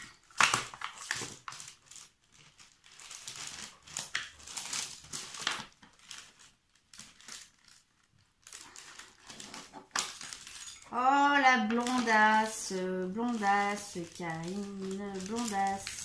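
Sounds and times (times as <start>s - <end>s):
baking paper rustling: 0.0s - 10.7s, 11.5s - 16.0s.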